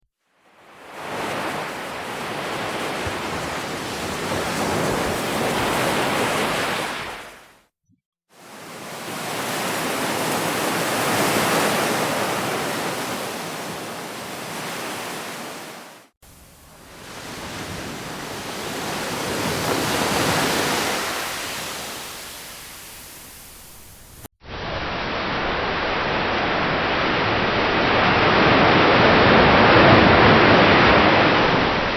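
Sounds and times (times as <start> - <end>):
ocean waves breaking: 0.5 - 7.6, 8.3 - 24.2, 25.0 - 31.9.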